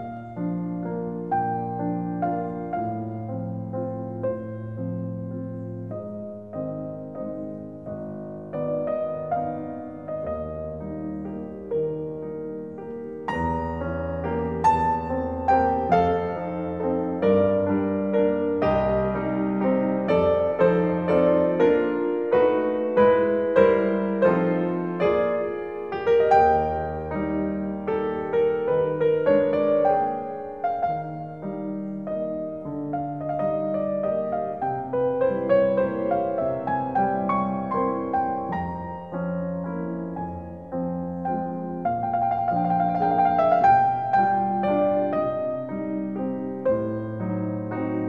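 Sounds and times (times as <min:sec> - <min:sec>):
solo classical piano: 0:00.0 - 0:48.0.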